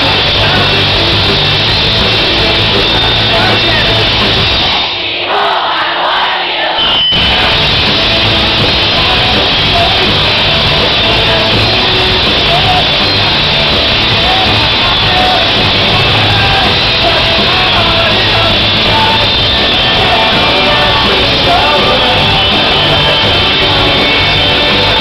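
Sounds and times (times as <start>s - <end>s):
rock band playing: 0.0s - 5.0s, 6.8s - 25.0s
person singing: 0.0s - 5.4s, 8.4s - 25.0s.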